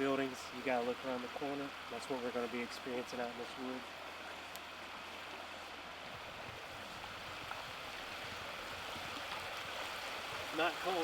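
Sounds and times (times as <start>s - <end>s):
water flowing across road: 0.0s - 11.0s.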